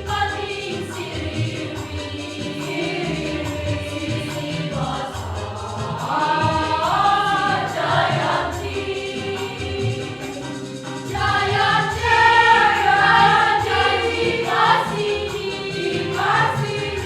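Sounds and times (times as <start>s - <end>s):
choir singing in parts: 0.0s - 17.0s.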